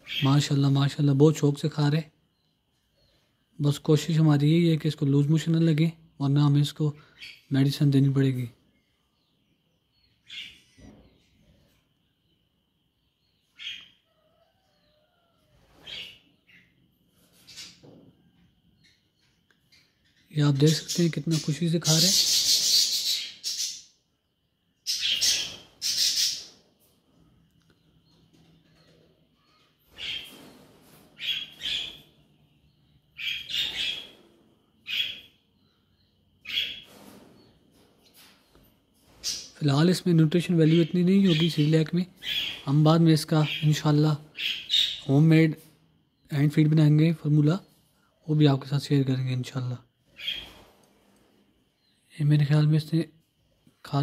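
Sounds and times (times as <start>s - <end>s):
bird chirping: 0.0s - 50.7s.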